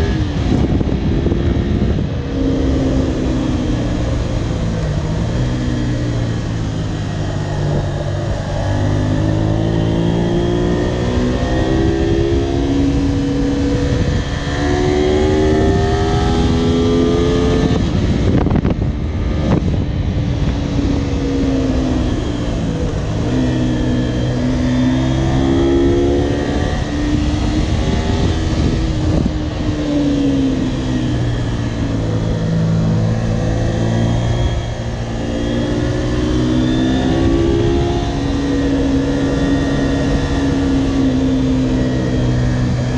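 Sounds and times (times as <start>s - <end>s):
motorcycle engine accelerating: 0.0s - 42.9s
wind rushing: 0.0s - 42.9s.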